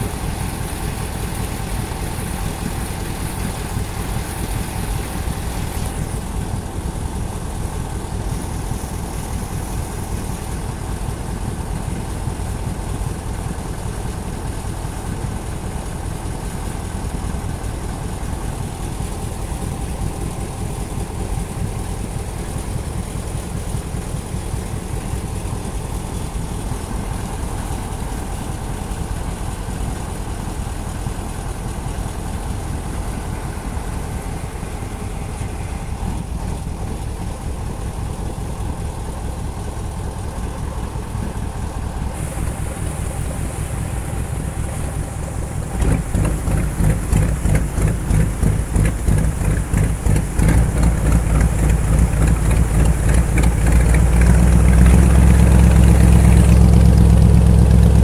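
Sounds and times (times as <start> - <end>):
boat engine running: 0.0 - 58.0
water rushing along a hull: 0.0 - 58.0.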